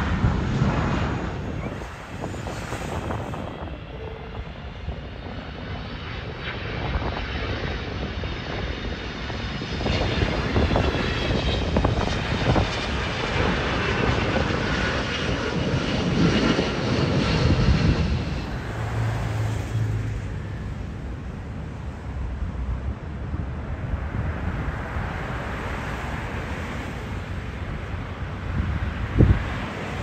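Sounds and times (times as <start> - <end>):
jet airliner passing low: 0.0 - 30.0
low airliner hum on approach: 0.0 - 30.0.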